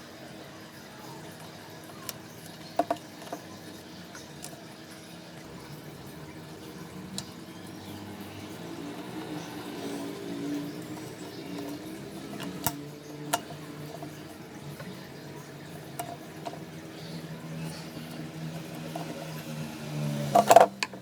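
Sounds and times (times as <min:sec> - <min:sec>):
water heating in electric kettle: 0:00.0 - 0:21.0.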